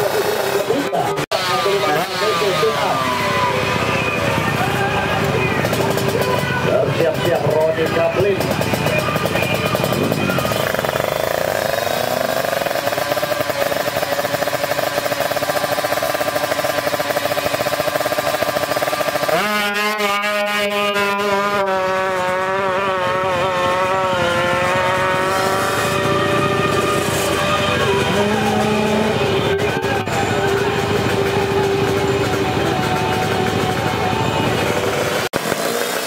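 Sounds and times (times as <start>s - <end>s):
motorcycle engines at high revs: 0.0s - 36.0s.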